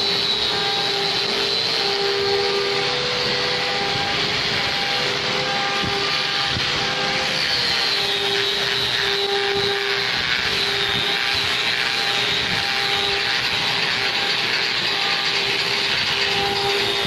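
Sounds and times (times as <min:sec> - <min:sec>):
angle grinder whining on wood: 0:00.0 - 0:17.0.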